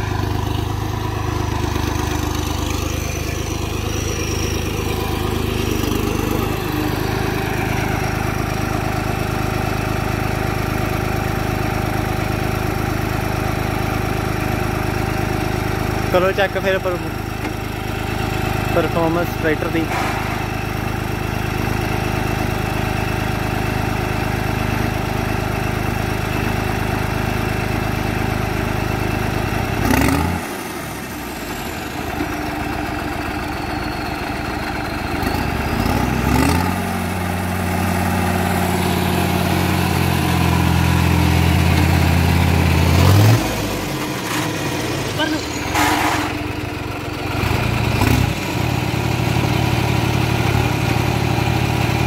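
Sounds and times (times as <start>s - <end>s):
tractor diesel engine working hard: 0.0s - 52.0s.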